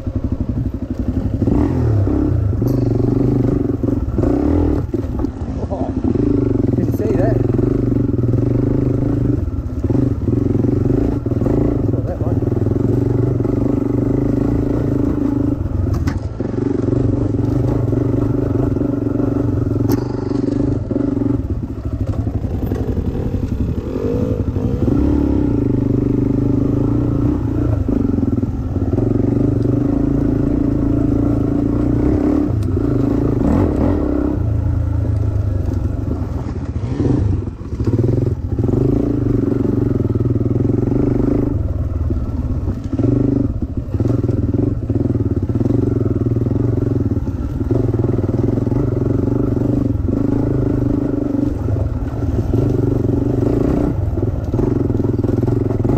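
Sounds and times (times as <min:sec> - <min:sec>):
dirt bike engine under throttle: 0:00.0 - 0:55.9.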